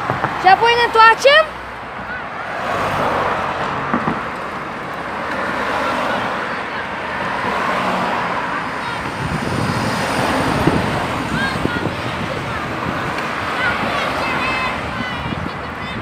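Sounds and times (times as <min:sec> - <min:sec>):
cars passing on a street: 0:00.0 - 0:16.0.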